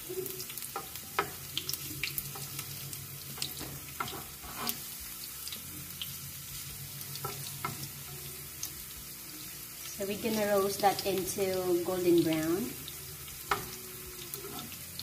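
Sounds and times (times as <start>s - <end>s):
garlic sizzling in oil: 0.0s - 15.0s
utensil stirring in a pan: 0.0s - 15.0s.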